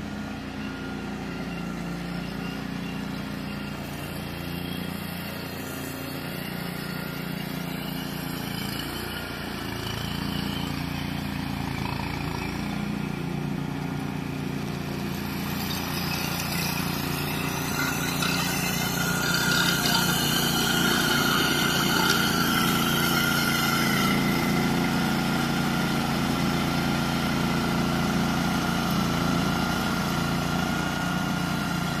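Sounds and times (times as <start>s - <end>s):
mower engine cutting weeds: 0.0s - 32.0s.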